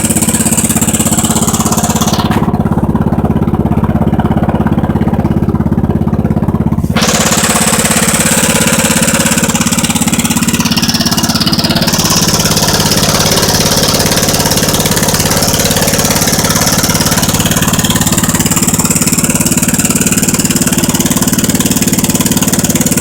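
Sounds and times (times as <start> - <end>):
garden tractor engine running: 0.0 - 23.0.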